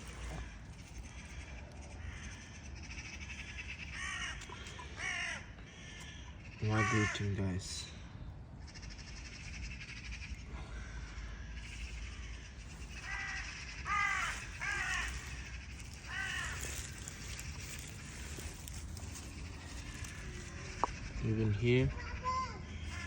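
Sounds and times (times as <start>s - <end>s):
crow cawing: 0.0s - 8.0s, 8.6s - 23.0s.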